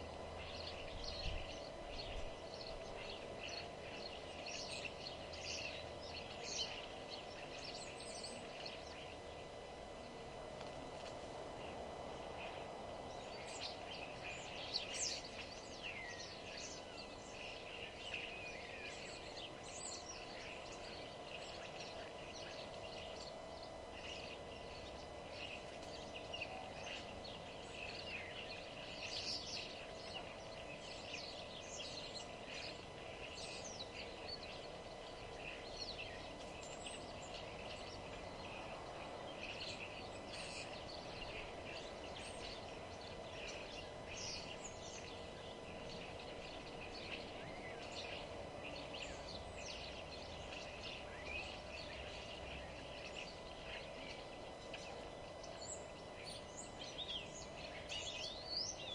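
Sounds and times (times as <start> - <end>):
low background hum: 0.0 - 58.9
small birds chirping and singing: 0.0 - 58.9.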